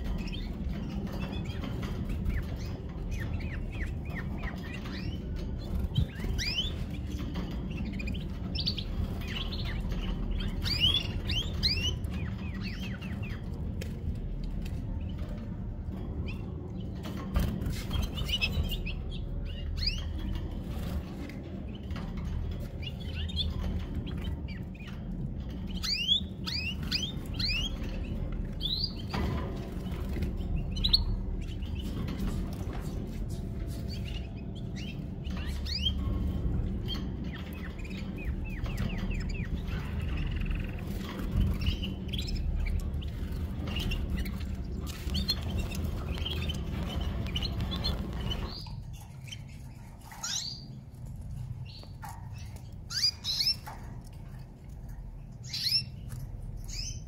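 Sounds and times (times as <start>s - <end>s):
canaries chirping: 0.0s - 57.0s
low background rumble: 0.0s - 57.0s.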